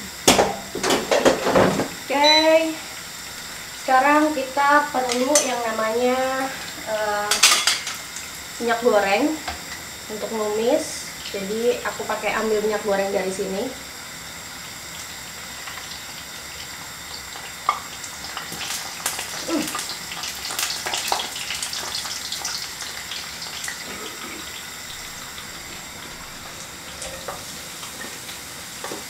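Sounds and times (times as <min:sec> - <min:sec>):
fritters sizzling in hot oil: 0:00.0 - 0:29.0.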